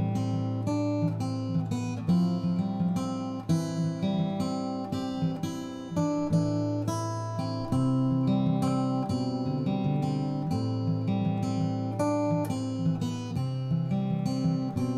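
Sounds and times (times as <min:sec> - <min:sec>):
plucked string background music: 0:00.0 - 0:14.9.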